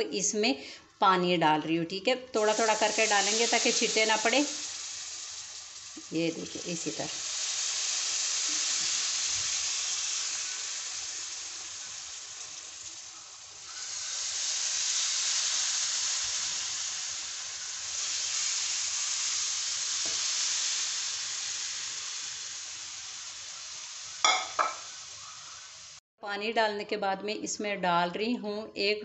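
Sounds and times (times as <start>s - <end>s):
water sizzling in hot pan: 2.4s - 26.0s.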